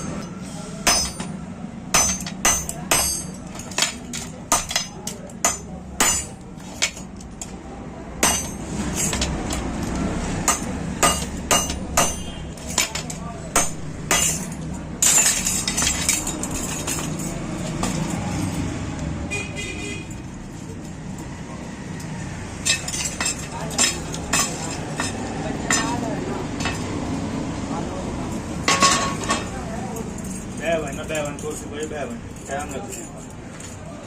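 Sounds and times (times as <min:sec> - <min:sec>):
hand tools clinking on metal: 0:00.0 - 0:07.6, 0:08.2 - 0:18.7, 0:22.6 - 0:26.9, 0:28.6 - 0:34.0.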